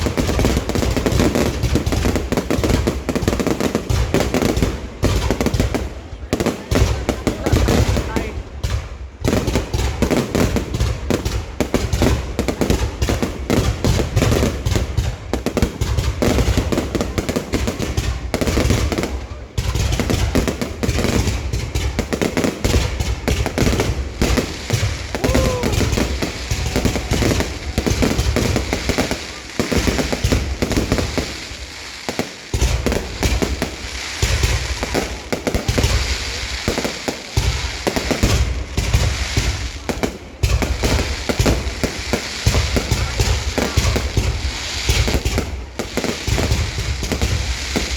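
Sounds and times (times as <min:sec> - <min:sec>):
deep fireworks booms: 0:00.0 - 0:47.9
fireworks bangs and crackling: 0:00.0 - 0:47.9.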